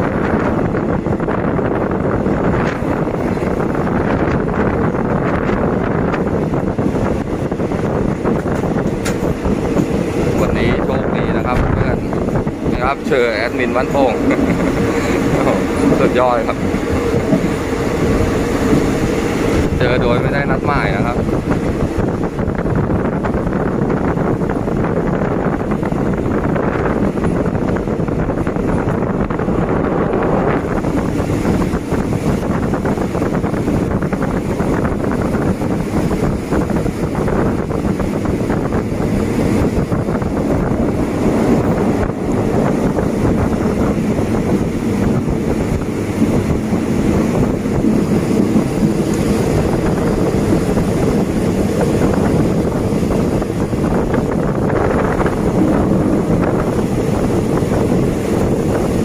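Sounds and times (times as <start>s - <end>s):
train wheels rumbling on rails: 0.0s - 59.0s
wind rushing over microphone: 0.0s - 59.0s.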